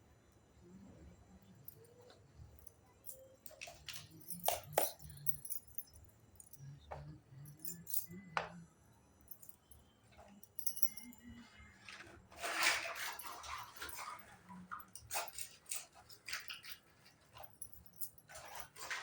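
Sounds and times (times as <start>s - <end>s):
toy kitchen pieces clinking: 1.7s - 8.5s, 9.3s - 19.0s.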